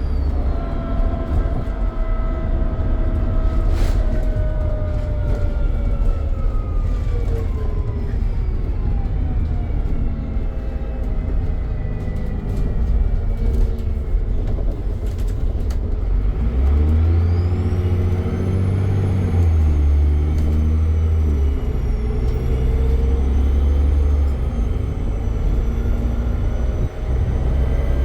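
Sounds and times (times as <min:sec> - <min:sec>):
bus diesel engine accelerating: 0:00.0 - 0:28.0.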